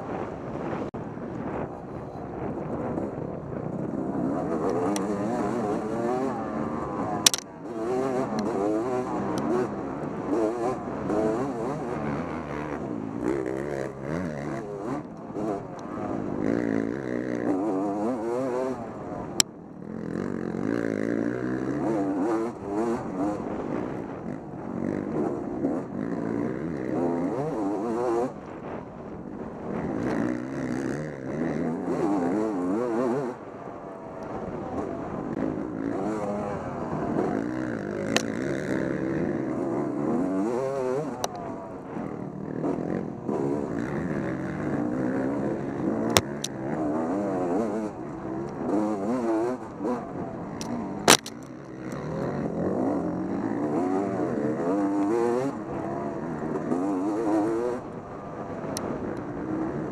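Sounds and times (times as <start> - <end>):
dirt bike engine revving: 2.4 - 59.9.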